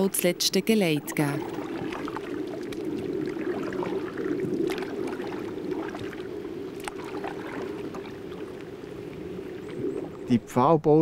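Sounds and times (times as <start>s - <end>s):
water swishing along a canoe: 0.0s - 11.0s.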